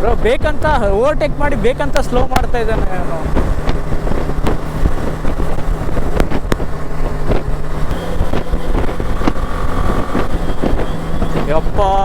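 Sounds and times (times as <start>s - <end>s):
motorcycle engine hum: 0.0s - 12.0s
wind noise on microphone: 0.0s - 12.0s.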